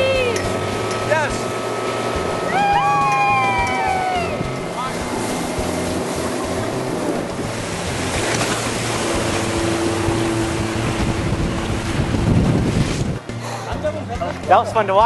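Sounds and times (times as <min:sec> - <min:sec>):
wind buffeting microphone: 0:00.0 - 0:14.2
motorboat engine hum: 0:00.0 - 0:15.0
rushing water: 0:00.0 - 0:15.0.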